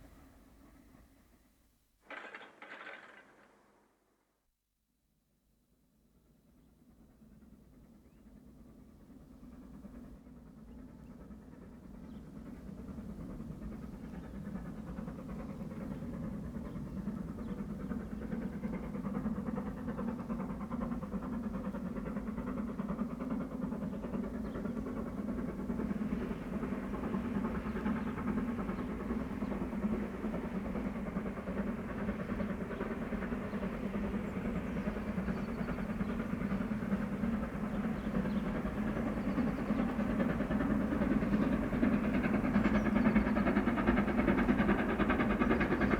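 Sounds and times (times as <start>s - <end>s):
steam train rumbling on rails: 6.2s - 45.9s.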